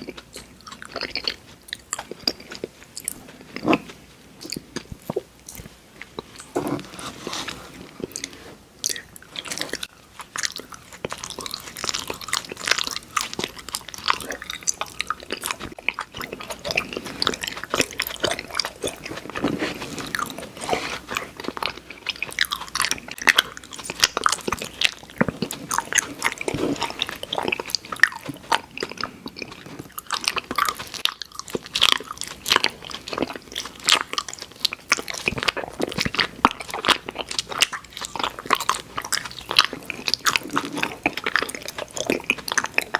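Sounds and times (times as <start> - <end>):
person crunching and chewing sweets: 0.0 - 42.9.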